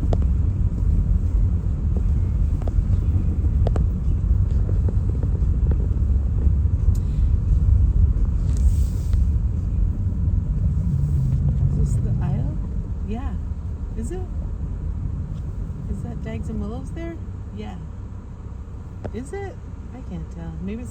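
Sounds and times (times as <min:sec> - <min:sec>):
car road and engine rumble: 0:00.0 - 0:20.9.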